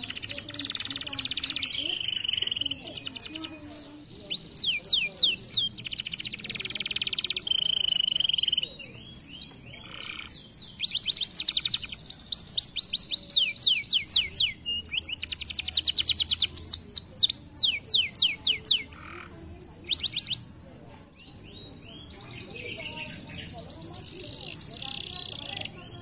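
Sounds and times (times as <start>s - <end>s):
canary singing trills: 0.0s - 20.6s, 21.2s - 26.0s.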